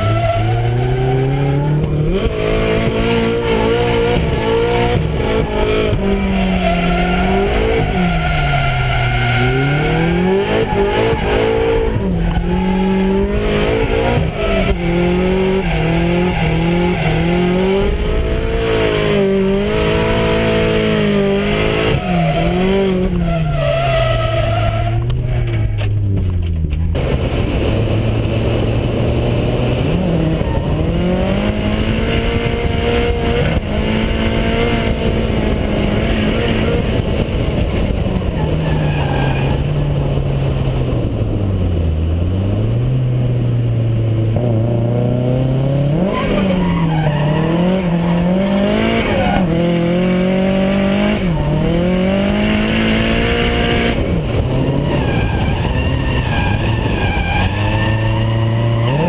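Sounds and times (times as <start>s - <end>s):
car engine revving hard: 0.0s - 25.0s, 27.0s - 43.4s, 44.0s - 59.0s
tyres skidding: 0.0s - 59.0s.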